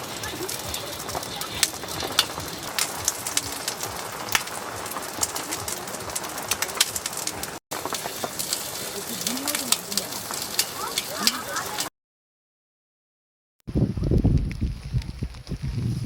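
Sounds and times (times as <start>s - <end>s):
rain tapping on tent fabric: 0.0s - 11.9s, 14.0s - 15.9s.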